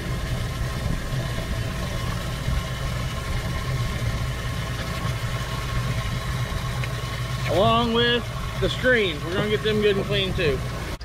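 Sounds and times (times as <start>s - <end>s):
low motor hum: 0.0s - 11.0s
water rushing from garden hose: 0.0s - 11.0s.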